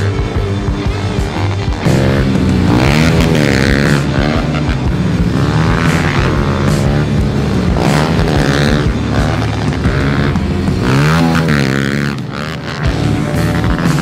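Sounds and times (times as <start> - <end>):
pit bike engines revving: 0.0 - 14.0.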